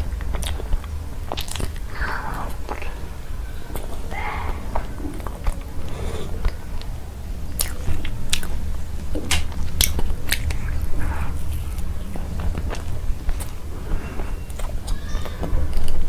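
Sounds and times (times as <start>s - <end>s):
biting: 0.0s - 3.0s, 3.6s - 16.0s
person chewing cake: 0.0s - 16.0s
steady low hum: 0.0s - 16.0s.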